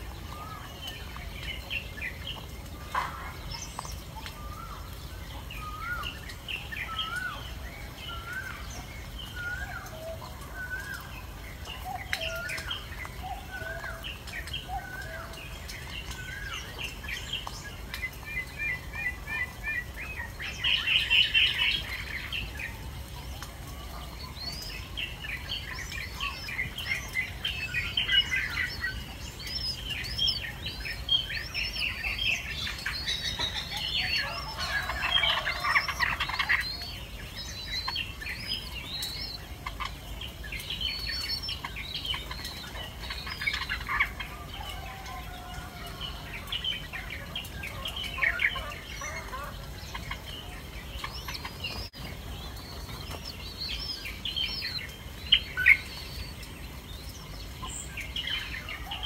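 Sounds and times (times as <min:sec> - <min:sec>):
birds chirping and squeaking: 0:00.0 - 0:59.0.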